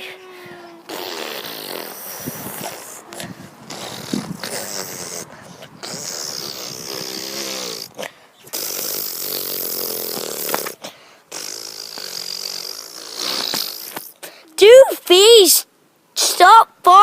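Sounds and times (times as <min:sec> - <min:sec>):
rasping fart noises: 0:00.0 - 0:14.2.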